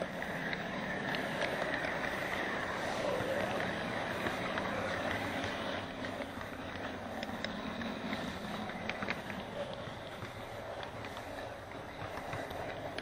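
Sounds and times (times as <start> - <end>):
model train rumble and whir: 0.0 - 13.0
wheels clicking over track: 0.0 - 13.0.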